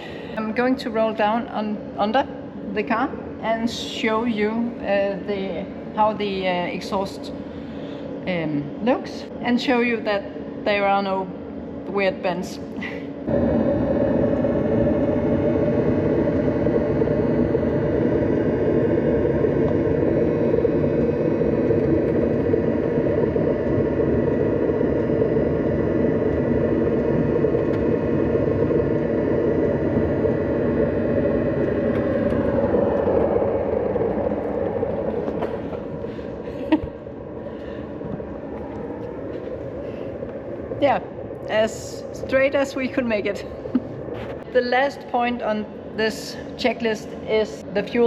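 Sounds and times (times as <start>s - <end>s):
diesel heater combustion rumble: 0.0s - 48.0s.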